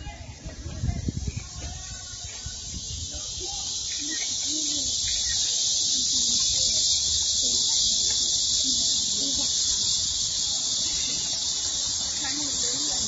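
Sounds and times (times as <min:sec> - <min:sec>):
cicadas hissing: 0:00.0 - 0:13.0.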